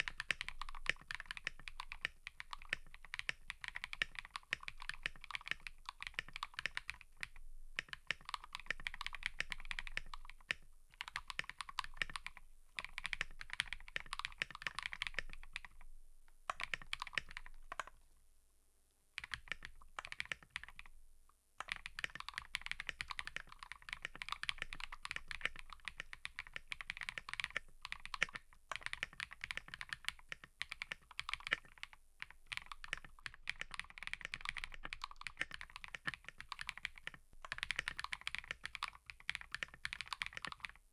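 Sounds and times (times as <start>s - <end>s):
mechanical keyboard typing: 0.0s - 15.8s, 16.5s - 18.0s, 19.2s - 20.9s, 21.6s - 40.8s.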